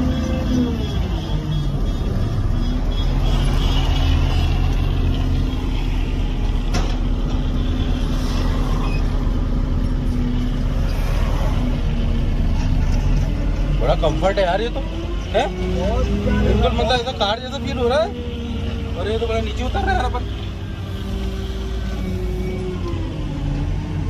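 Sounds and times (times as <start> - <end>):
diesel truck engine running: 0.0 - 24.0
road noise: 0.0 - 24.0.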